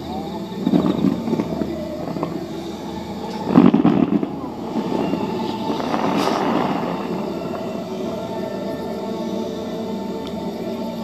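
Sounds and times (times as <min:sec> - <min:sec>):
fireworks bursting: 0:00.0 - 0:10.9.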